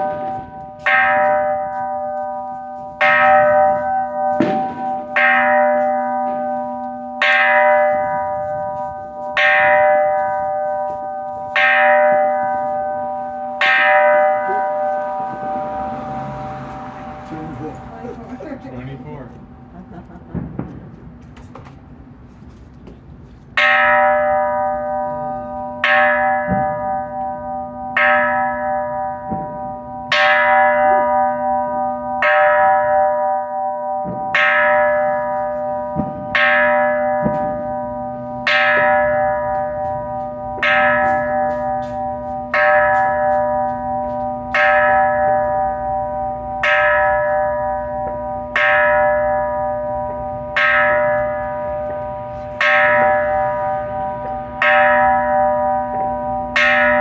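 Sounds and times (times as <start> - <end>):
temple bell ringing: 0.0 - 20.7, 23.5 - 57.0.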